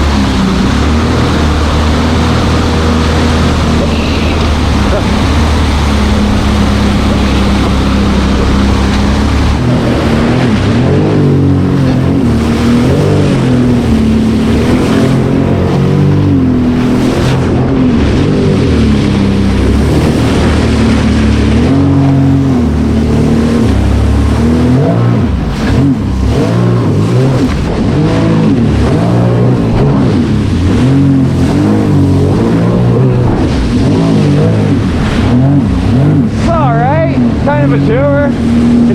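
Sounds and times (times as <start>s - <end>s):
personal watercraft engine revving: 0.0s - 38.9s.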